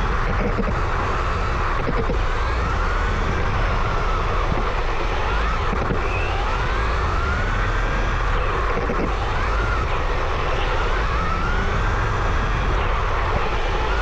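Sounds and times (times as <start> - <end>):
electric motor whining: 0.0 - 14.0
steady low rumble: 0.0 - 14.0.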